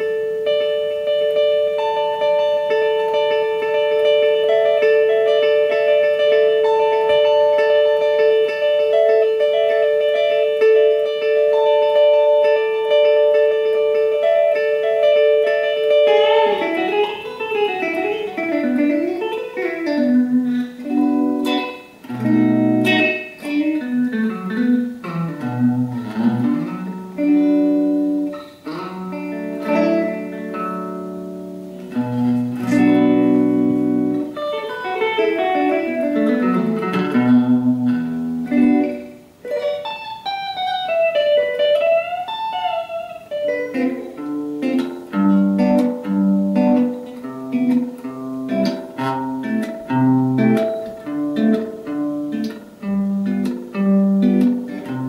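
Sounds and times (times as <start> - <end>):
electric guitar with delay: 0.0 - 55.0.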